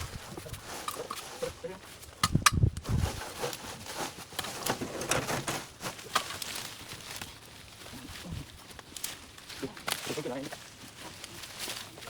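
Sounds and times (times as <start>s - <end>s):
brush snapping and rustling: 0.0s - 12.0s.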